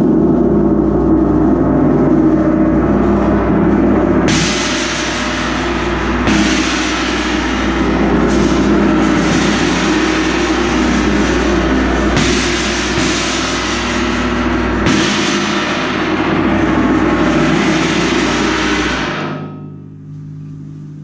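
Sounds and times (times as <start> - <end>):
gong struck with soft mallet: 0.0 - 20.8.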